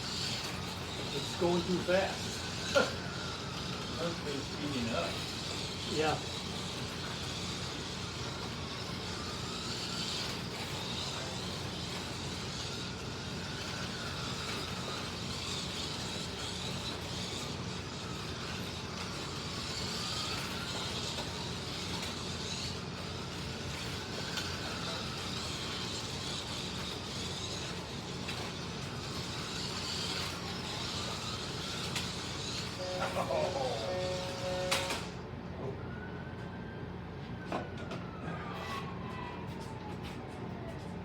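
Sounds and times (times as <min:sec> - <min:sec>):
slot car motors whining: 0:00.0 - 0:36.8, 0:37.7 - 0:39.8.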